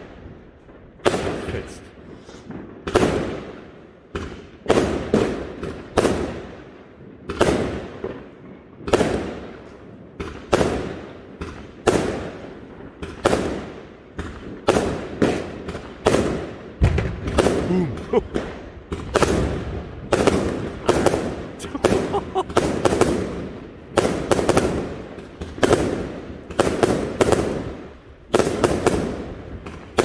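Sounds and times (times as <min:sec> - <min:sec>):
fireworks bursting with bangs: 0:00.0 - 0:30.0.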